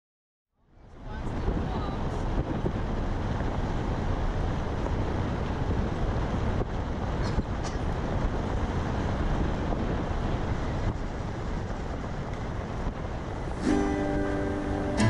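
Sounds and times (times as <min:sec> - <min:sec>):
moving vehicle rumble: 0:00.6 - 0:15.0
wind on microphone: 0:00.7 - 0:15.0.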